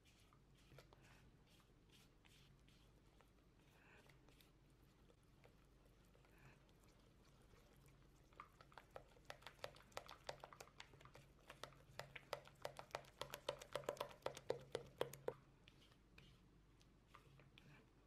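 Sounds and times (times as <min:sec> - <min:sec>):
spatula stirring thick batter: 0:00.0 - 0:18.0.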